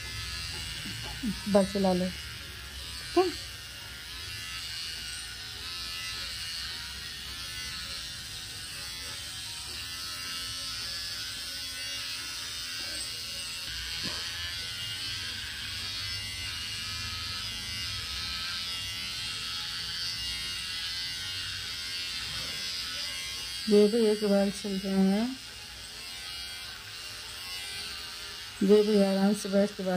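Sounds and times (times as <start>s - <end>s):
electric pet trimmer buzzing: 0.0s - 29.9s.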